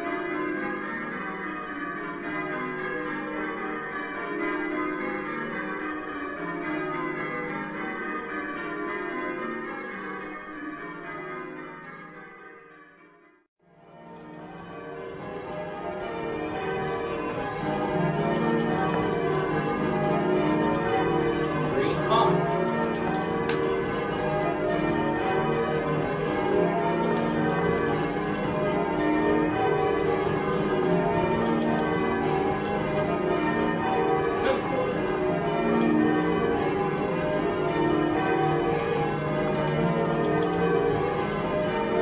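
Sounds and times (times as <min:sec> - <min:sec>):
church bells ringing: 0:00.0 - 0:13.1, 0:13.7 - 0:42.0.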